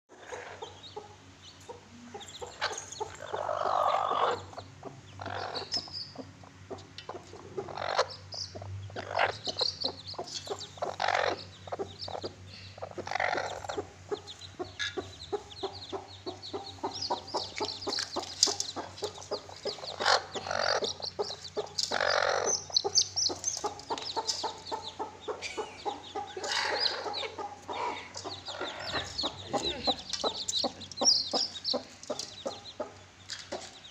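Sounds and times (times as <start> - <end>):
chickens clucking: 0.1 - 33.9
chicks cheeping: 0.1 - 33.9.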